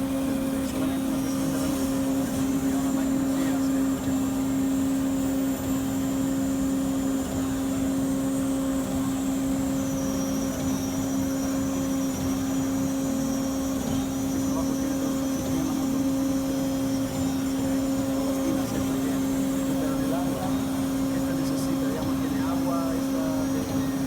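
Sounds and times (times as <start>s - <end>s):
machine humming with high whine: 0.0s - 24.0s.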